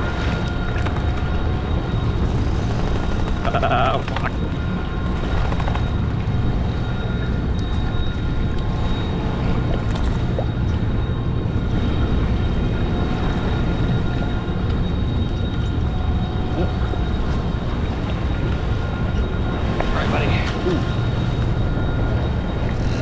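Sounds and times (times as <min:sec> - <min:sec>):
boat engines rumbling: 0:00.0 - 0:23.0.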